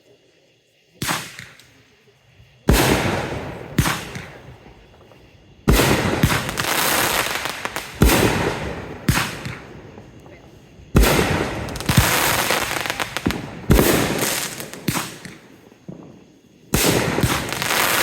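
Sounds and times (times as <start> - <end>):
rumble and crackle: 0.1 - 18.0
fireworks bangs: 1.0 - 1.8, 2.6 - 18.0.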